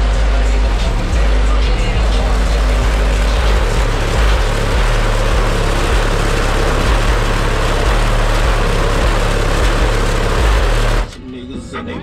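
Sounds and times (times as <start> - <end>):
deep bass notes pulsing: 0.0 - 11.5
car engine and road noise: 0.0 - 12.0.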